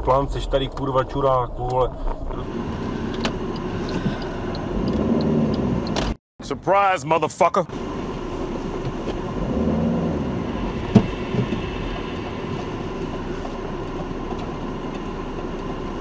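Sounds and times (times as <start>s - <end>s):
car engine and tyres rumbling: 0.0s - 6.6s, 7.6s - 16.0s.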